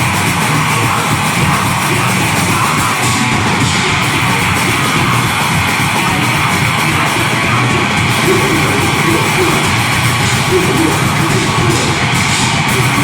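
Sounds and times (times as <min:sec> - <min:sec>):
distorted guitars: 0:00.0 - 0:13.0
rapid drumming: 0:00.0 - 0:13.0.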